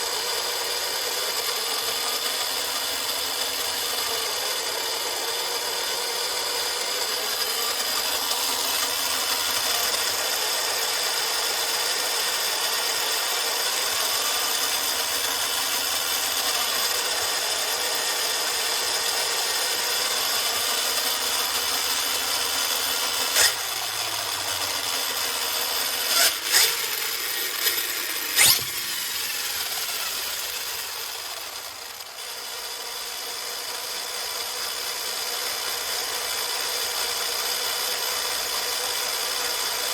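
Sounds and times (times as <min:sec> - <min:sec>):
toy truck electric motor whining: 0:00.0 - 0:39.9.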